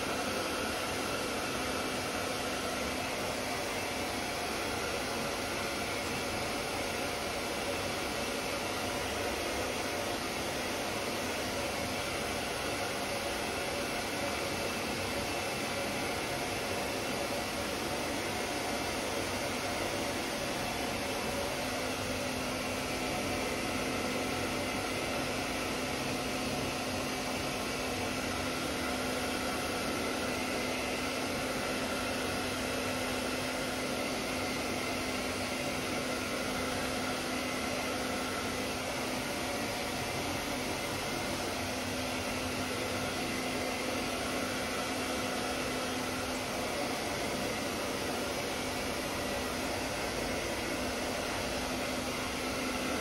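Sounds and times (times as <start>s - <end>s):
hair dryer blowing: 0.0s - 53.0s.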